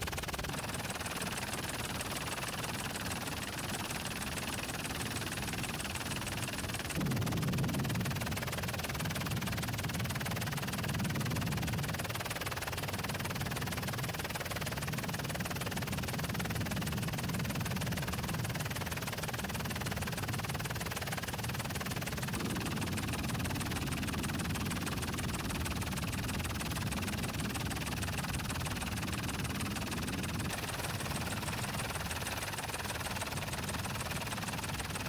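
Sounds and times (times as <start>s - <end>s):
aircraft engine drone in cabin: 0.0s - 35.0s.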